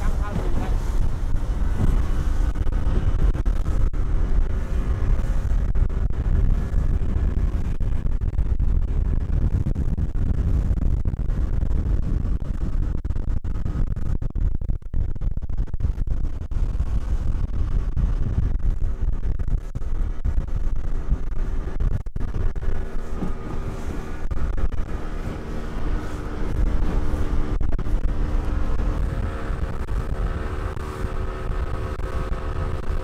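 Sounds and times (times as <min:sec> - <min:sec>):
boat engine running: 0:00.0 - 0:33.0
wind rumble on microphone: 0:00.0 - 0:33.0.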